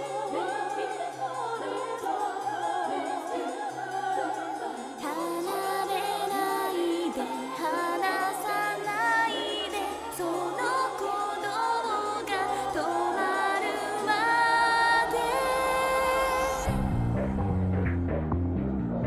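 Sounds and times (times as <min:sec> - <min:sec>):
theme song with singing: 0:00.0 - 0:19.0.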